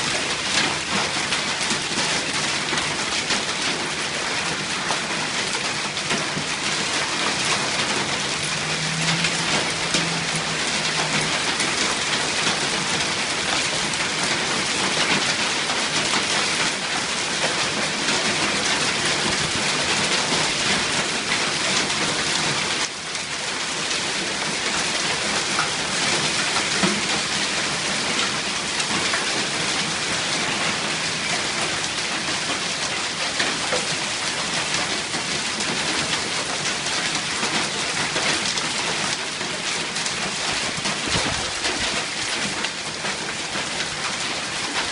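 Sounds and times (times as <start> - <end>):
hail and heavy rain clattering: 0.0 - 44.9.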